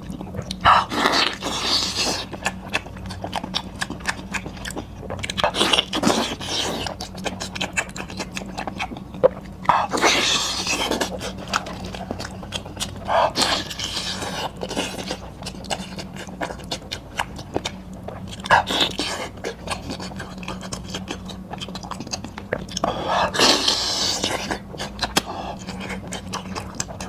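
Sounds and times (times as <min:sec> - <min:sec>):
person chewing meat: 0:00.0 - 0:27.0.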